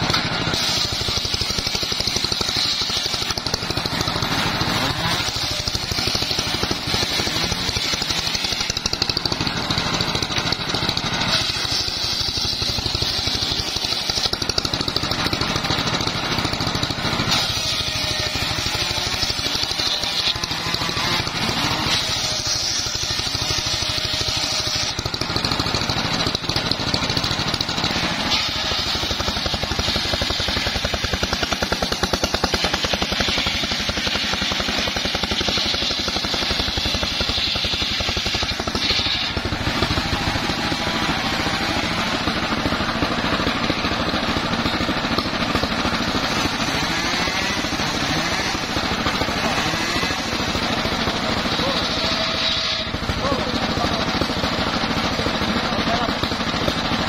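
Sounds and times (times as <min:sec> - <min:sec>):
circular saw blade whine: 0:00.0 - 0:57.0
engine drone: 0:00.0 - 0:57.0.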